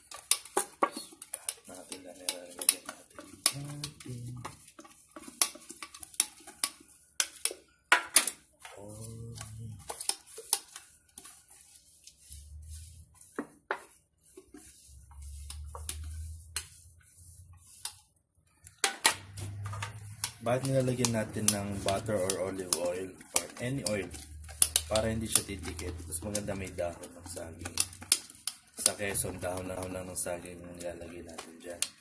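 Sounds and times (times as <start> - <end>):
kitchen items clicking and tapping: 0.0 - 12.2, 17.8 - 32.0.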